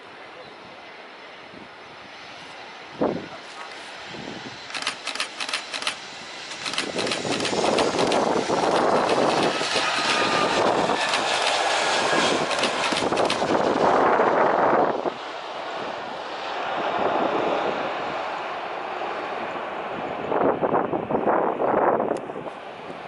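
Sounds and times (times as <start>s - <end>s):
jet engines roaring: 0.6s - 23.0s.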